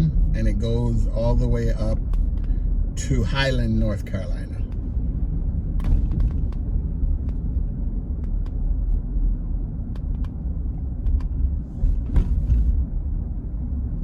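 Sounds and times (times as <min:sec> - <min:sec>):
vehicle rumble from inside cab: 0:00.0 - 0:14.0.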